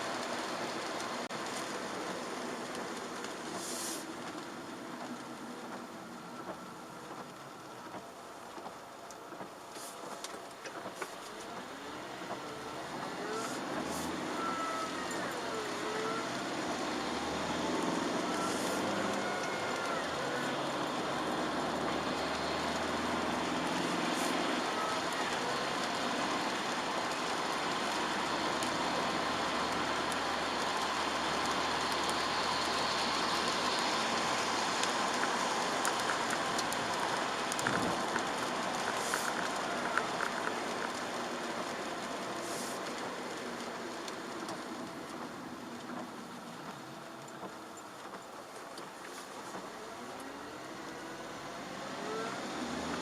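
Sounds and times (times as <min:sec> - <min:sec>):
tyre hiss on wet road: 0:00.0 - 0:53.0.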